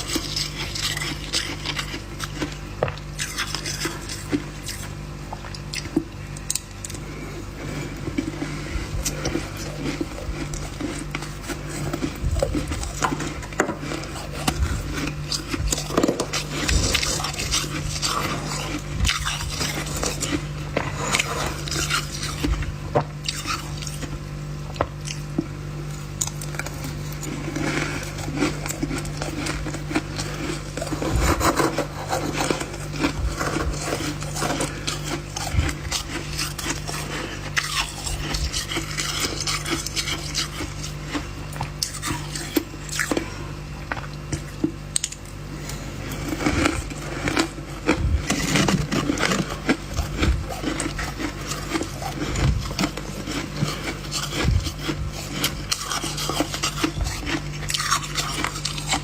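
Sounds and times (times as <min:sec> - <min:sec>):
steady low hum: 0:00.0 - 0:59.0
ice being crunched and scraped: 0:07.0 - 0:24.1, 0:26.2 - 0:43.4, 0:45.6 - 0:59.0.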